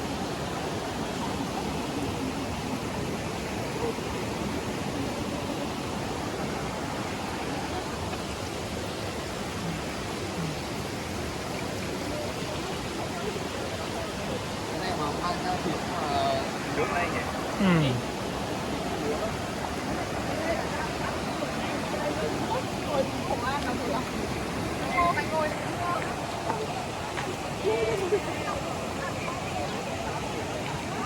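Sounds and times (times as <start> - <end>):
mountain water rushing: 0.0 - 31.0.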